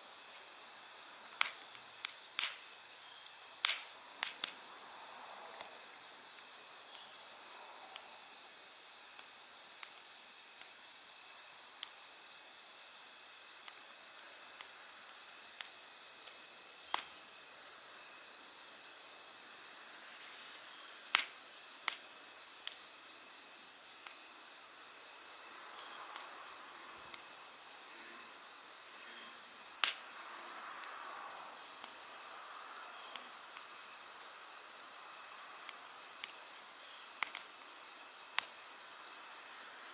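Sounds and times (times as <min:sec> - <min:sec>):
crickets trilling: 0:00.0 - 0:39.9
campfire pops and crackles: 0:00.2 - 0:04.9, 0:05.5 - 0:12.8, 0:13.4 - 0:17.9, 0:20.4 - 0:28.4, 0:29.0 - 0:31.0, 0:31.6 - 0:32.2, 0:32.8 - 0:39.4.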